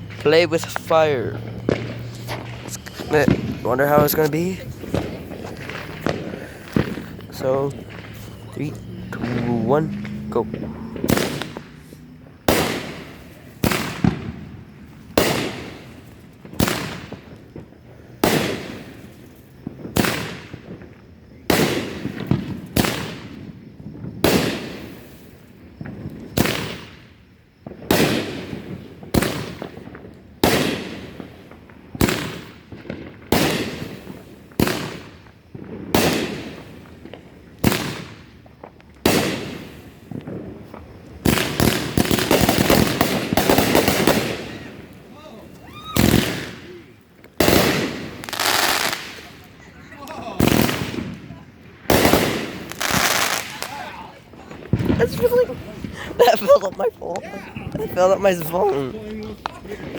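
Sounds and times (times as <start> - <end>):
firework bangs with crackle: 0.0 - 59.9.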